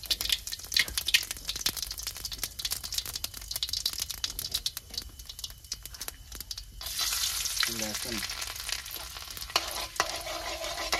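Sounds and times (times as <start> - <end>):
seeds crackling in hot oil: 0.0 - 10.9.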